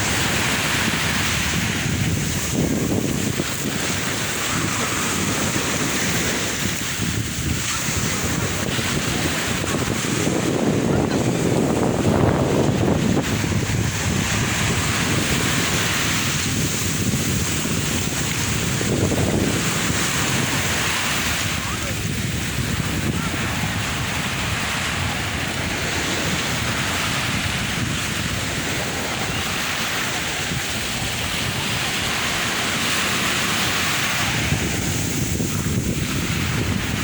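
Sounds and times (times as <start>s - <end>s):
sea waves breaking: 0.0s - 37.0s
wind noise on microphone: 0.0s - 37.0s.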